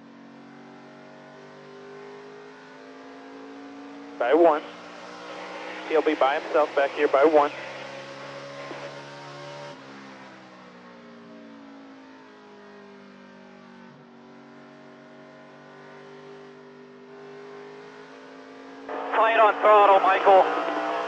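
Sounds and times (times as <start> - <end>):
race truck engine at speed: 0.0 - 21.0.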